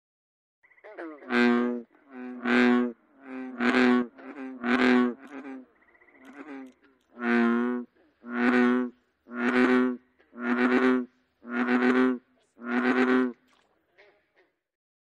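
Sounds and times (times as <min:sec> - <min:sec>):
bullfrog croaking: 0:00.6 - 0:13.5.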